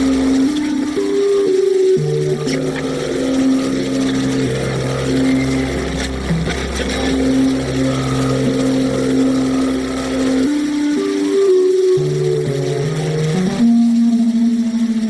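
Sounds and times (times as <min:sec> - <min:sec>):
low droning synth tones: 0:00.0 - 0:15.0
steady hiss: 0:00.0 - 0:15.0.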